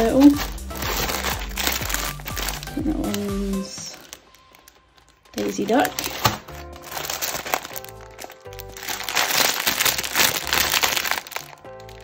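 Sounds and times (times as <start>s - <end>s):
background music with held chords: 0.0s - 12.0s
plastic bags crinkling: 0.0s - 12.0s.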